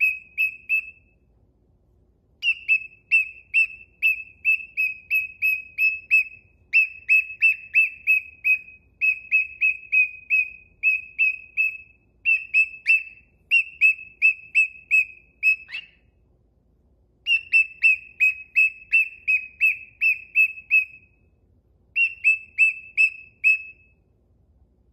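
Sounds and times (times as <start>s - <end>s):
cockatiel whistled chirps: 0.0s - 1.2s, 2.4s - 16.1s, 17.2s - 21.2s, 21.9s - 24.0s.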